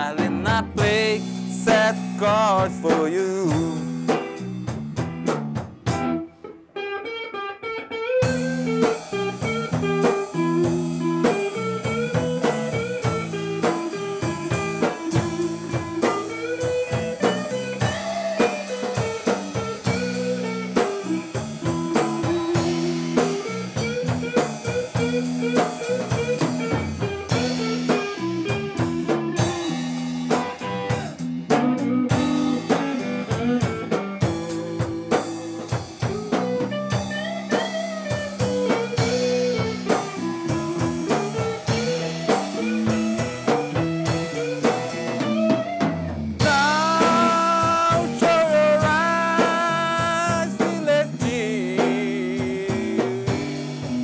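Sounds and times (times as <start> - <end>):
blues band playing: 0.0 - 54.0
electric guitar lead with bent notes: 0.0 - 54.0.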